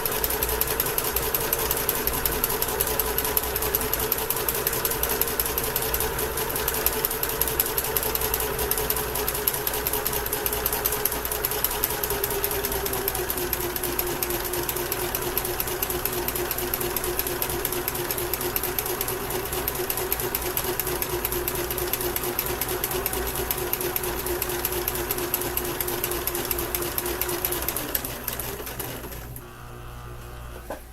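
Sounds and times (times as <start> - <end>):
sewing machine running: 0.0 - 30.1.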